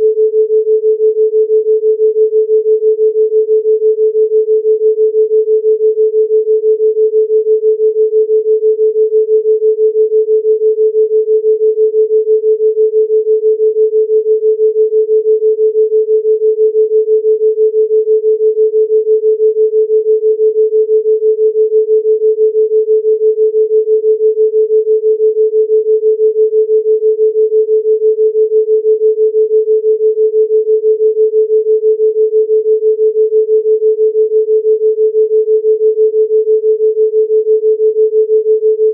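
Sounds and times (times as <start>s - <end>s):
pulsing pure sine tone: 0.0s - 38.9s.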